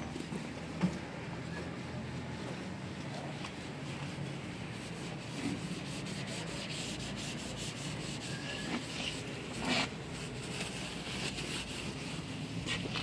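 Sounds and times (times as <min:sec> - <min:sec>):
wash mitt scrubbing a car: 0:00.0 - 0:13.0.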